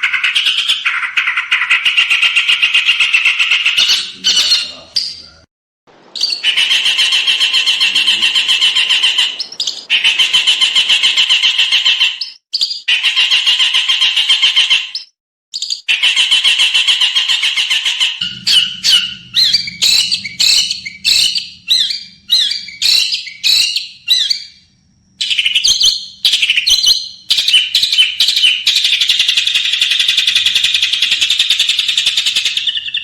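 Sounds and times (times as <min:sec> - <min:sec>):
songbird singing harsh trills: 0:00.2 - 0:05.4, 0:06.0 - 0:15.0, 0:15.6 - 0:33.0.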